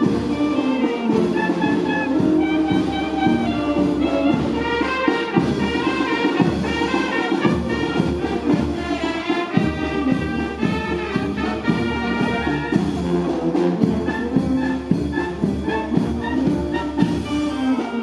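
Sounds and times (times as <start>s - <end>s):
marching brass band playing: 0.0s - 18.0s.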